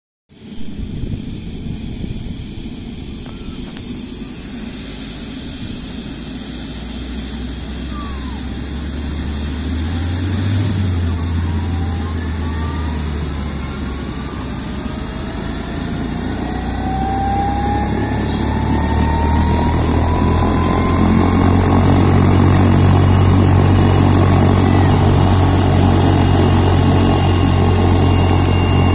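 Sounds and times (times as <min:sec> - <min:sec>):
helicopter turbine whine: 0:00.3 - 0:28.9
deep steady hum: 0:00.4 - 0:28.9.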